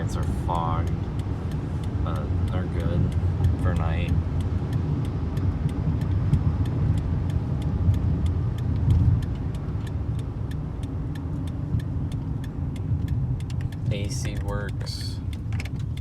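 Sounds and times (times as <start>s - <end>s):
car engine drone in cabin: 0.0s - 16.0s
faint light ticks: 0.0s - 16.0s
road noise: 0.0s - 16.0s.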